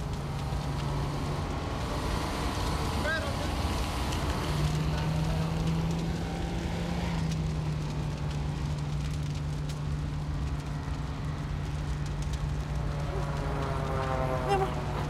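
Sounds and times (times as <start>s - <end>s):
flames crackling: 0.0s - 15.0s
water hissing from fire hose: 0.0s - 15.0s.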